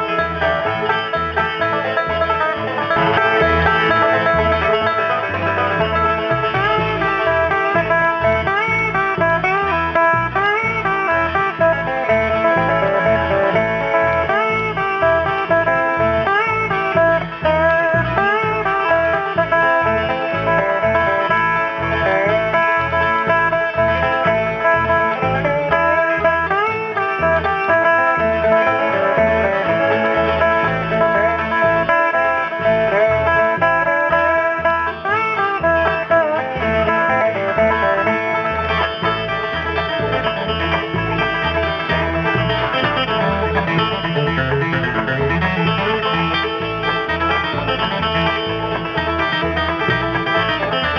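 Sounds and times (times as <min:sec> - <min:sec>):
banjo: 0:00.0 - 0:50.9
bass beat: 0:00.0 - 0:50.9
guitar: 0:00.0 - 0:50.9.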